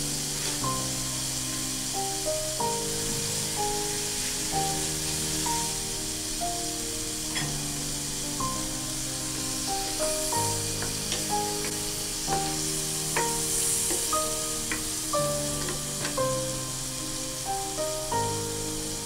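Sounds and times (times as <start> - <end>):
background music: 0.0 - 19.0
steak sizzling in a frying pan: 0.0 - 19.0.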